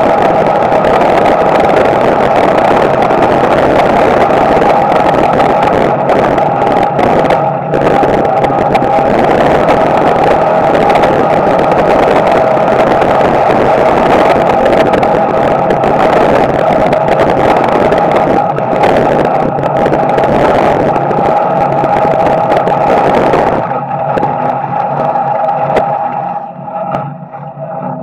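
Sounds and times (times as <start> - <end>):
race car engine running: 0.0 - 28.0.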